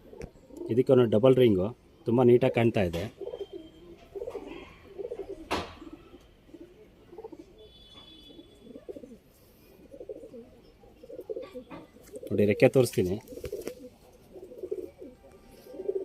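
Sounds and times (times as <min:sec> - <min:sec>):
pigeons cooing: 0:00.0 - 0:00.9, 0:03.0 - 0:16.0.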